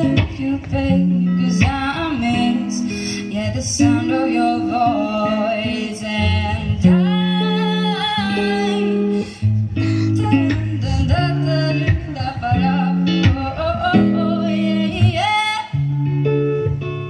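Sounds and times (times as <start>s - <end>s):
person singing: 0.0s - 16.8s
acoustic guitar and bass: 0.0s - 17.0s.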